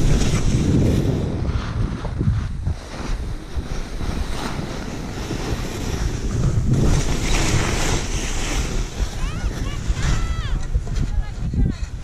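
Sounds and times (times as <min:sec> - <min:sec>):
skis scraping over snow: 0:00.0 - 0:12.0
wind buffeting microphone: 0:00.0 - 0:12.0.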